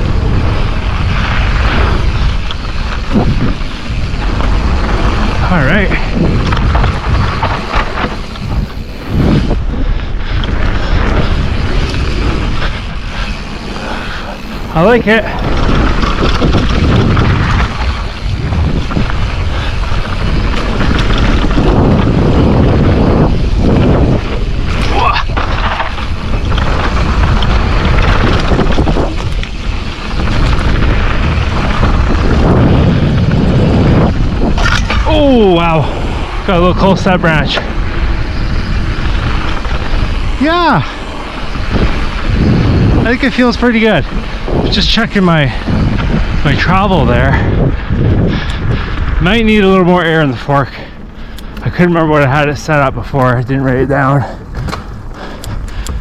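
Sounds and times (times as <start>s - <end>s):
bike clicks and clatter: 0.0s - 56.0s
tyres rolling on dirt: 0.0s - 56.0s
wind rushing over microphone: 0.0s - 56.0s.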